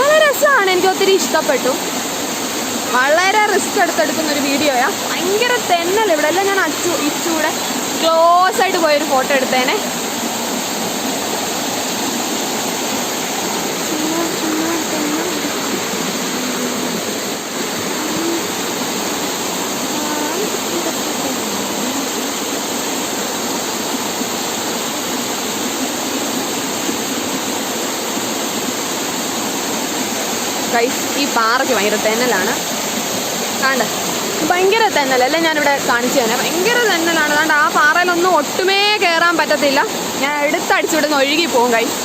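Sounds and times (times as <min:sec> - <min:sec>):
waterfall pouring over rocks: 0:00.0 - 0:42.0.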